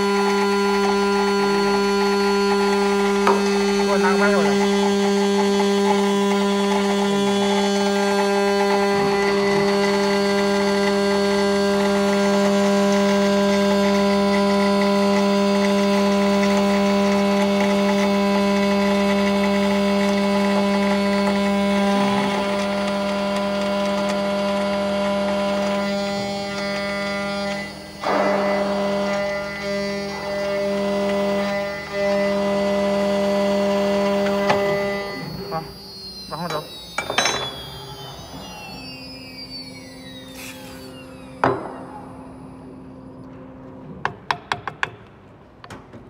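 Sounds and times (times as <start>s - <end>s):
end mill cutting metal: 0.0s - 43.3s
router spindle humming: 0.0s - 44.9s.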